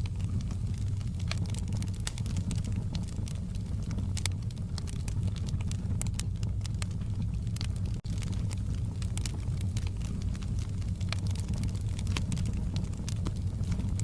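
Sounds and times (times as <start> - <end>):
log fire crackling and popping: 0.0 - 14.0
low fire rumble: 0.0 - 14.0.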